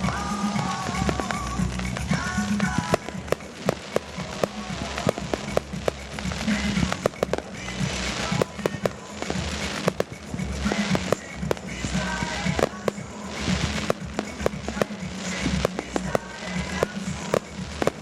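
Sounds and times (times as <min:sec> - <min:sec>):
fireworks bangs and cracks: 0:00.0 - 0:18.0
fireworks rumble and echo: 0:00.0 - 0:18.0.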